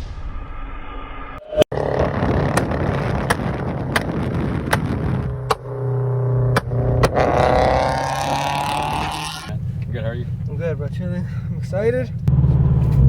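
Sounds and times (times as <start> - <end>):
car engine revving with whine: 1.4 - 13.0.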